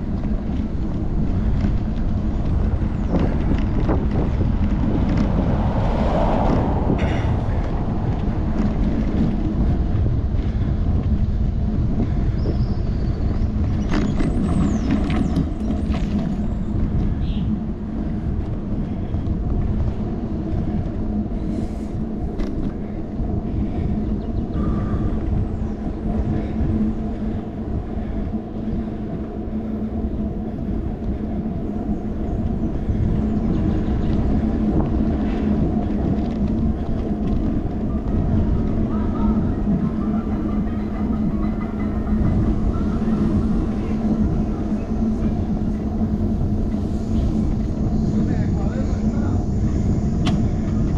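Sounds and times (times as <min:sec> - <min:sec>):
low hum: 0:00.0 - 0:50.9
wind buffeting microphone: 0:00.0 - 0:50.9.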